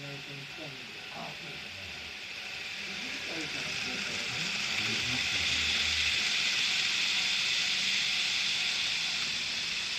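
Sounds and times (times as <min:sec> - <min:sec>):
model train motor whirring: 0:00.0 - 0:09.9.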